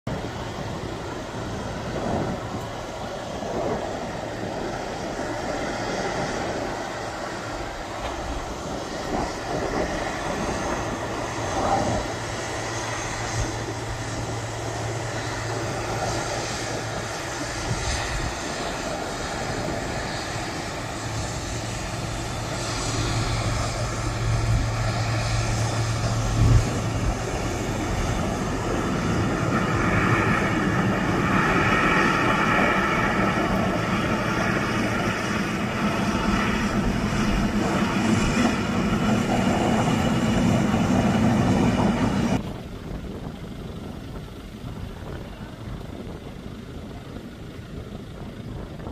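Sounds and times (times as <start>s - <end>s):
jet engines running: 0.1s - 48.9s.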